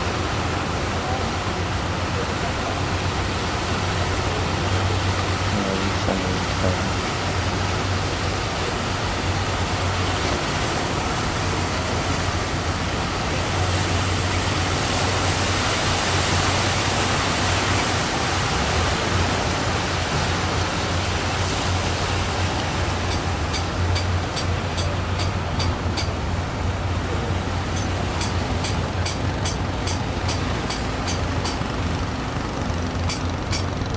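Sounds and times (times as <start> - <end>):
sea surf roaring: 0.0 - 33.9.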